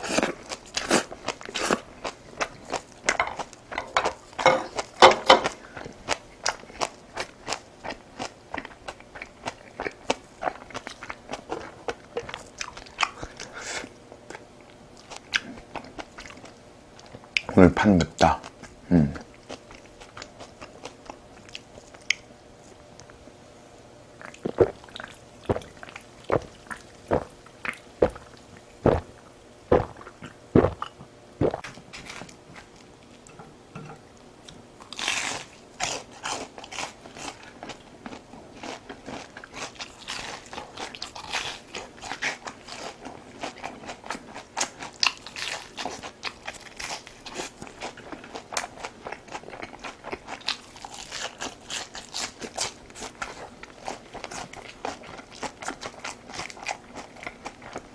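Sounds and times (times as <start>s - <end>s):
person chewing crunchy food: 0.0s - 17.5s, 18.2s - 23.3s, 24.1s - 57.9s.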